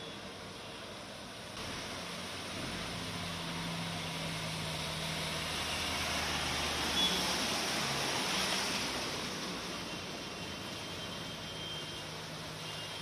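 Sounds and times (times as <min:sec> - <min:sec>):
bus engine humming: 0:00.0 - 0:13.0
hiss of churned water: 0:01.1 - 0:12.9.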